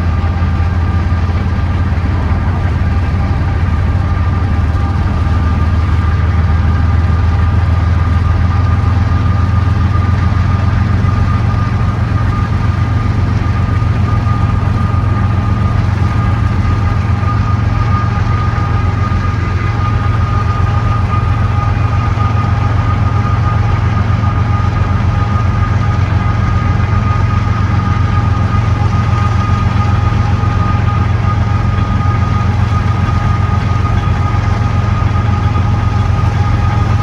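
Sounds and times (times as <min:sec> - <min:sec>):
locomotive engine rumbling: 0:00.0 - 0:37.0
steady engine whine: 0:00.0 - 0:37.0.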